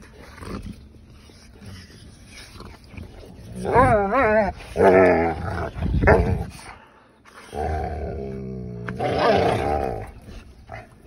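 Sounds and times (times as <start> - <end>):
dogs growling: 0.0 - 11.0.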